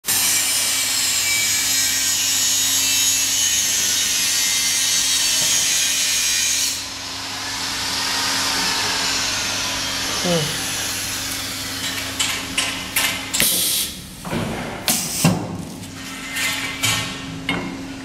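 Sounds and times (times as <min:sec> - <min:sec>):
grinding unit rasping hiss: 0:00.1 - 0:16.5.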